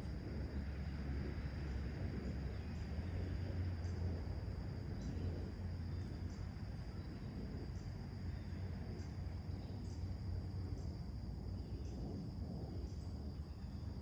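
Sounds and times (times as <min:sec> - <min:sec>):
high-pitched insect trill: 0:00.0 - 0:14.0
low rumble: 0:00.0 - 0:14.0.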